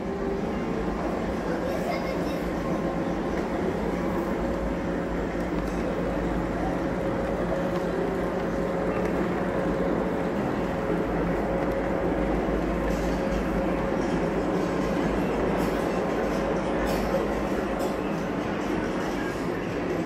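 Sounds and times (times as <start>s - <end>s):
model train hum and rumble: 0.0s - 20.0s.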